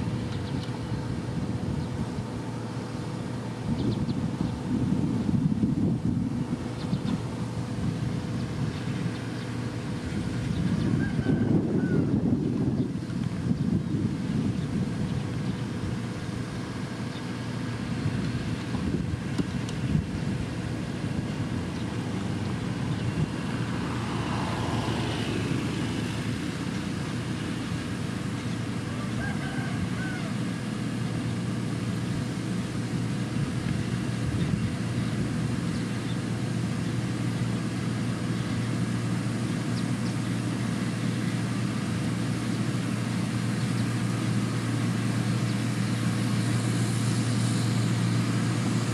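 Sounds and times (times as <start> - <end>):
diesel engine running steadily: 0.0 - 48.9.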